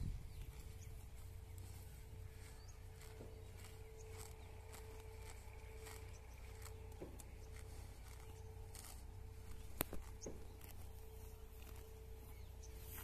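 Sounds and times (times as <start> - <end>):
cows tearing and chewing grass: 0.0 - 13.0
faint steady hum: 0.0 - 13.0.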